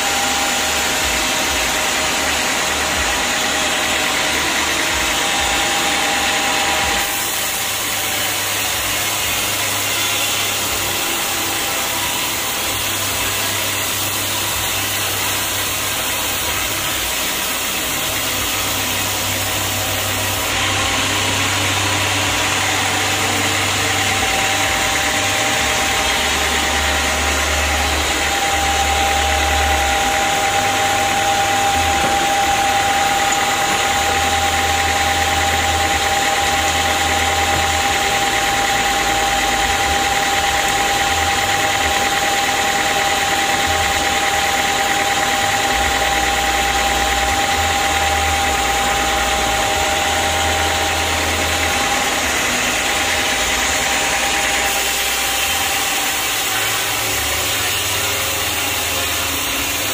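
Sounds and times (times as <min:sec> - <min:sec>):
band saw cutting log: 0:00.0 - 0:59.9.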